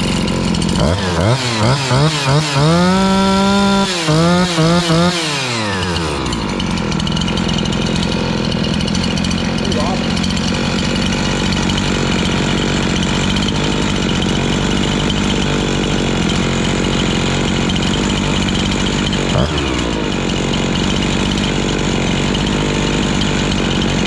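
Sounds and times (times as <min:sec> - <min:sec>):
chainsaw engine running: 0:00.0 - 0:24.0.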